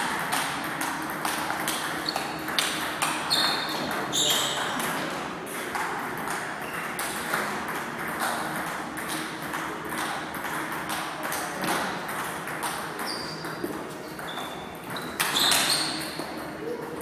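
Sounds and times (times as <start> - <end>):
table tennis balls clicking: 0.0 - 17.0.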